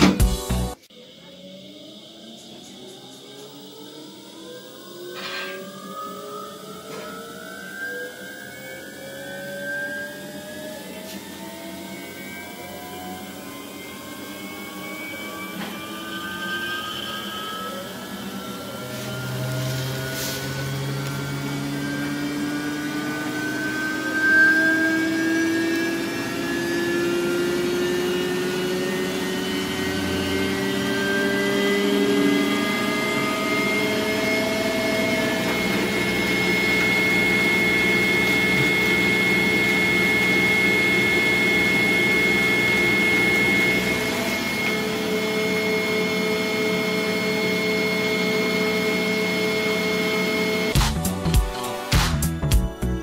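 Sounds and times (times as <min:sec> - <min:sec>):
washing machine spinning: 0:01.4 - 0:53.0.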